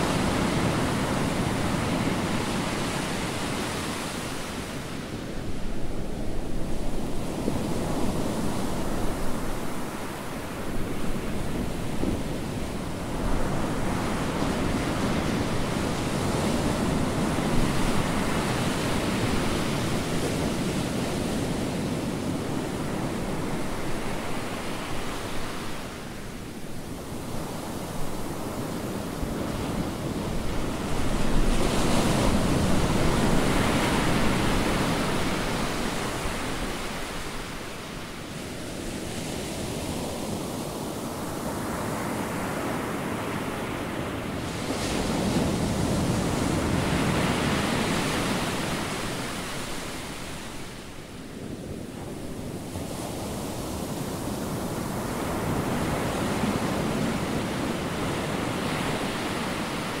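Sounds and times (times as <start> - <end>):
waves breaking on shore: 0.0 - 60.0.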